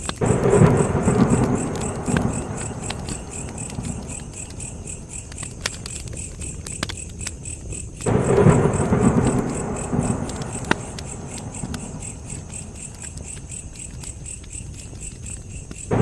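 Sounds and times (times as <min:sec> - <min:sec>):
crickets chirping: 0:00.0 - 0:16.0
wood fire crackling and popping: 0:00.0 - 0:16.0.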